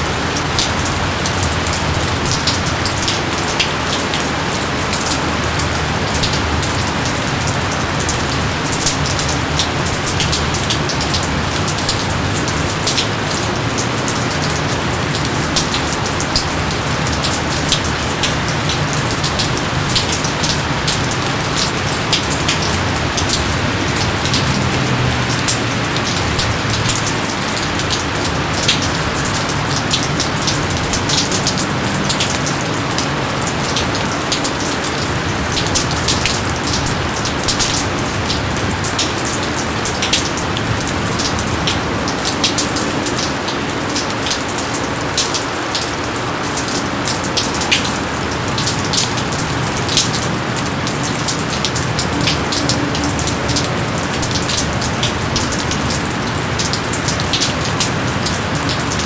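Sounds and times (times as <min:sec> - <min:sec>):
heavy rain drops striking surfaces: 0:00.0 - 0:59.0.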